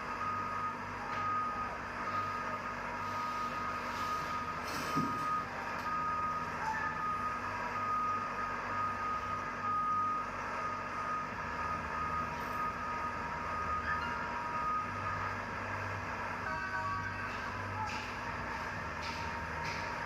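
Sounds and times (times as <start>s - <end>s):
engine humming: 0.0s - 20.0s
reversing alarm beeping: 0.0s - 20.0s.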